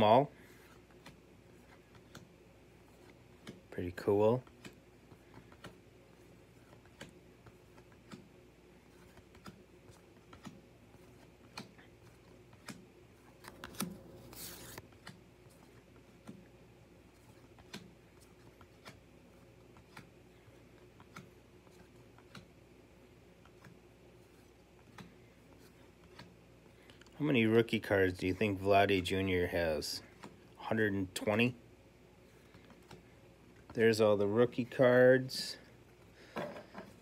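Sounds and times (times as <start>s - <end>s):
cards rustling: 0.0s - 22.6s, 23.3s - 31.5s, 32.2s - 37.0s.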